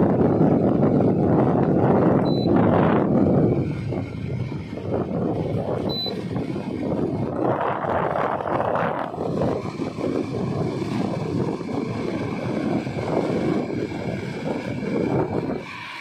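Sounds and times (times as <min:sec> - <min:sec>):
air conditioner fan rushing: 0:00.0 - 0:16.0.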